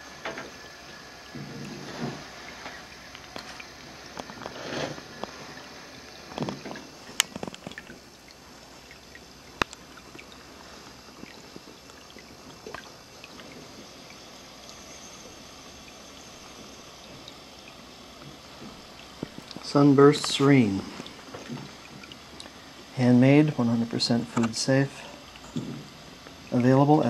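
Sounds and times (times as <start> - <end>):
water trickling into bowl: 0.0 - 27.0.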